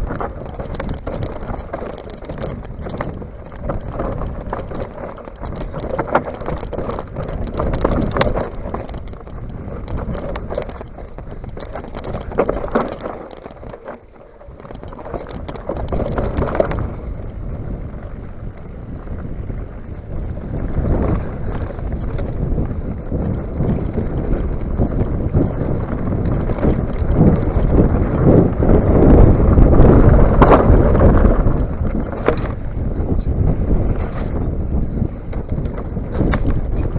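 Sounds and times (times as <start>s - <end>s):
bike rattling over bumps: 0.0s - 36.9s
tyres crunching on gravel: 0.0s - 36.9s
wind buffeting microphone: 0.0s - 36.9s.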